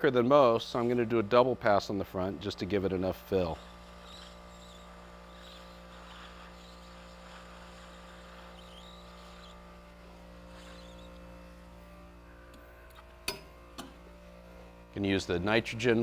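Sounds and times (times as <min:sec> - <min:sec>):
plastic welder humming: 0:00.0 - 0:16.0.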